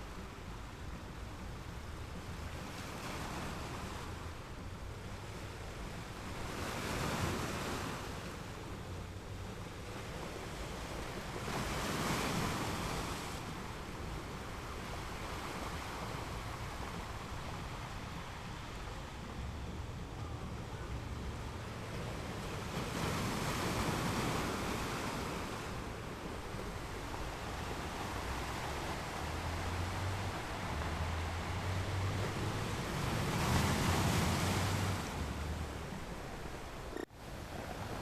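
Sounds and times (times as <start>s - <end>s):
ocean waves breaking on shore: 0.0s - 38.0s.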